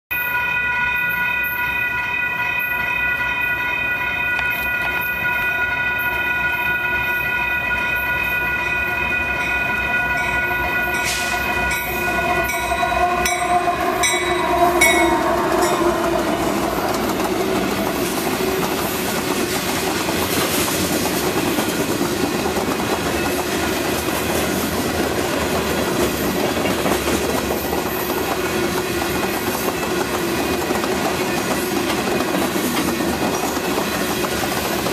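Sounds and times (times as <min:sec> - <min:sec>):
crossing bell ringing: 0:00.1 - 0:34.9
rail cars rumbling and clacking: 0:00.4 - 0:34.9
diesel locomotives passing: 0:01.0 - 0:34.9.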